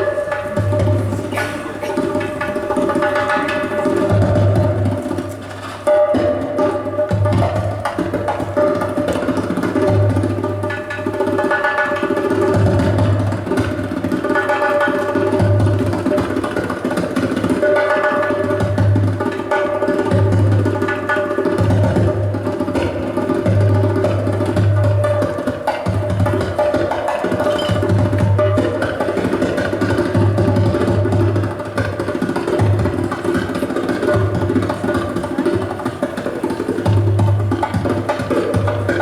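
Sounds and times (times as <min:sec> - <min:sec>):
hand percussion and drums: 0:00.0 - 0:39.0.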